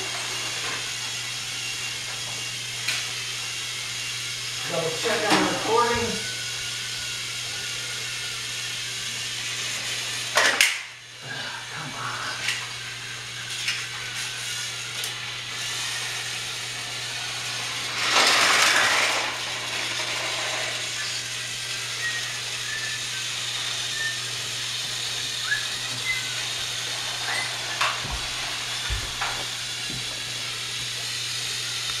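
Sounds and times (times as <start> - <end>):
toy train motors whirring: 0.0 - 32.0.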